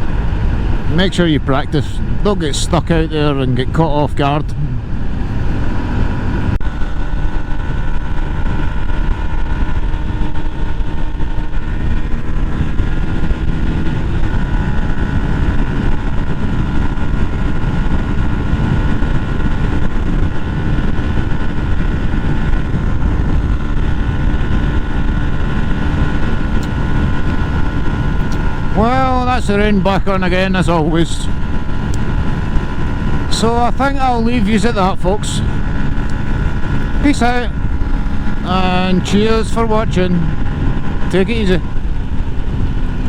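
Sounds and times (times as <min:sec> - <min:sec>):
motorcycle engine running: 0:00.0 - 0:43.0
wind rush on microphone: 0:00.0 - 0:43.0.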